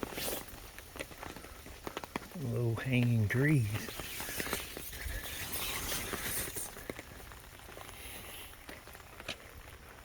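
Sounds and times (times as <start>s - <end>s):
light rain pattering: 0.0s - 10.0s
raindrops ticking: 0.0s - 10.0s.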